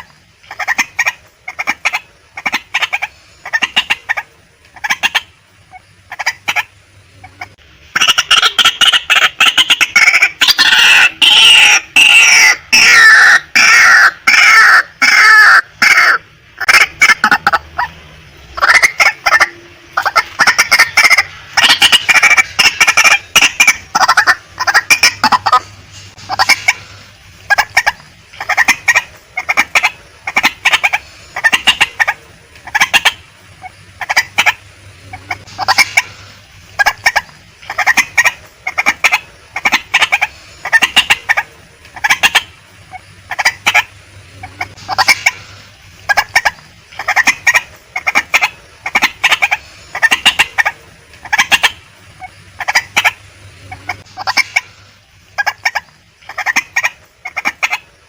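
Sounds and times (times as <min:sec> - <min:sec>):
waterhen calling: 0:00.0 - 0:58.0.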